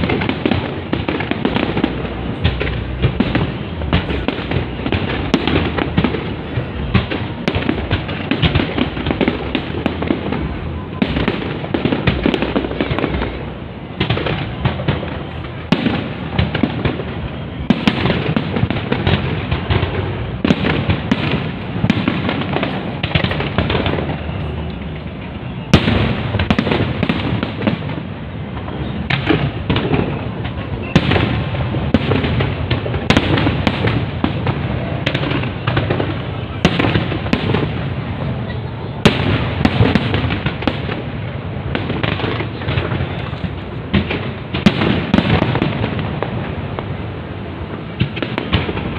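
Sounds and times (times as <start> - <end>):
fireworks bangs and crackle: 0.0 - 48.9.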